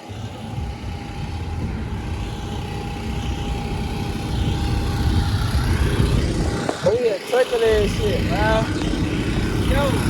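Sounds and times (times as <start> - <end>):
car engines rumbling: 0.0 - 10.0.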